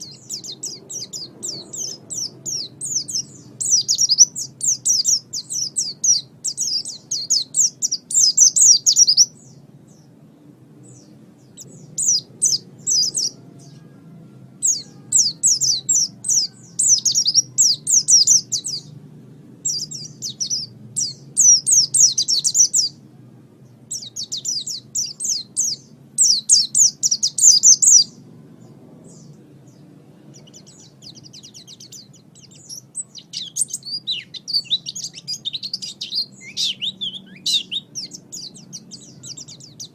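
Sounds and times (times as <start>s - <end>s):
bird twittering: 0.0s - 10.1s, 10.9s - 13.9s, 14.6s - 18.9s, 19.6s - 23.0s, 23.9s - 28.2s, 30.4s - 39.9s
faint low hum: 0.0s - 39.9s.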